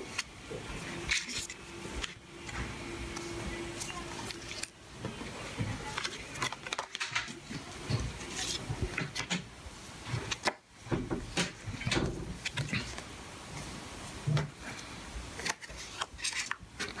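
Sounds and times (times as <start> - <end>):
cardboard and paper rustling: 0.0 - 17.0.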